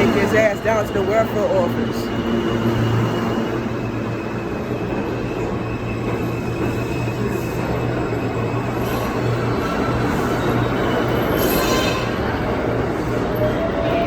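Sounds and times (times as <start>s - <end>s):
subway train hum and rumble: 0.0s - 14.0s.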